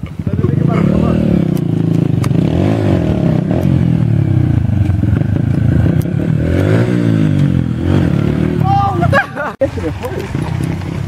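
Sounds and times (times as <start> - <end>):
dirt bike engine revving: 0.2 - 11.0.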